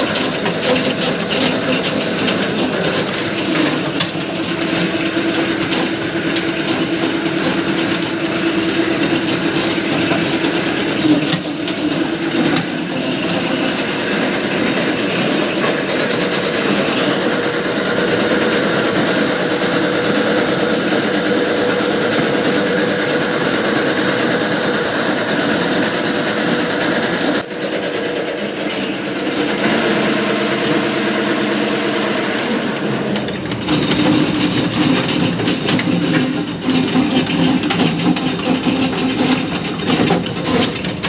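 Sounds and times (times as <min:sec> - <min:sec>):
machine rattling: 0:00.0 - 0:41.0.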